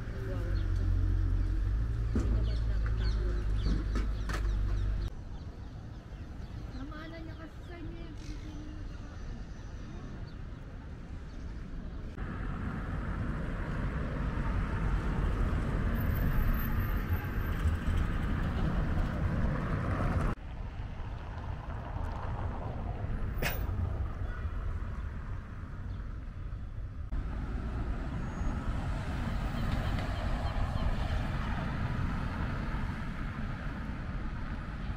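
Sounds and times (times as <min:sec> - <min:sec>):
passing vehicles rumbling: 0:00.0 - 0:09.4, 0:11.9 - 0:34.9.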